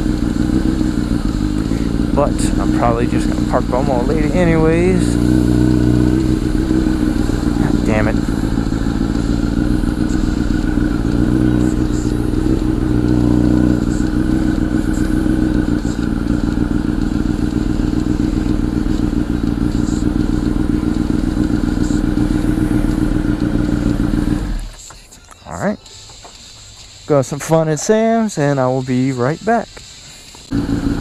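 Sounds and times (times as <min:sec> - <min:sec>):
motorcycle engine idling: 0:00.0 - 0:25.0, 0:30.4 - 0:31.0.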